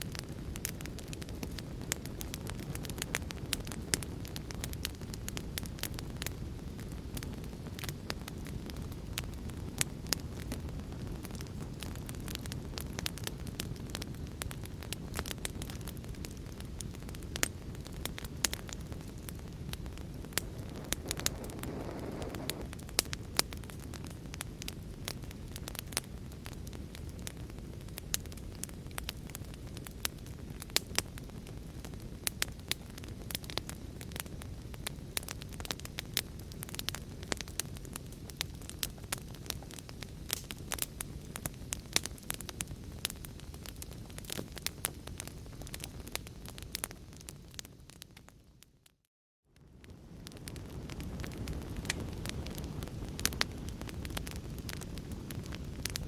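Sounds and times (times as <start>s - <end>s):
fire low rumble: 0.0s - 49.0s, 49.6s - 56.0s
wood fire crackling and popping: 0.0s - 49.0s, 49.6s - 56.0s.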